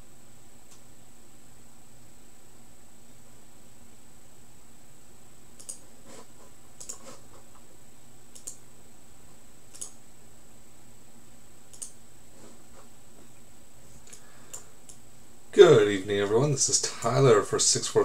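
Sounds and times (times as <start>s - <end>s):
high steady whine: 0.0s - 18.0s
low electrical hum: 0.0s - 18.0s.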